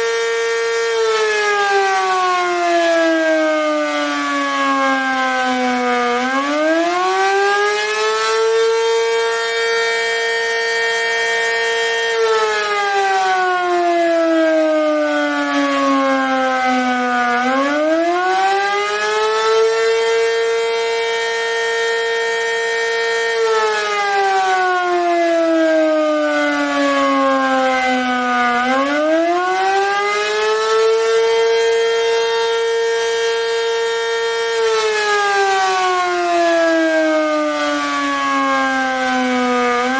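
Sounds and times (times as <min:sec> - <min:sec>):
warning siren rising and falling wail: 0:00.0 - 0:39.9.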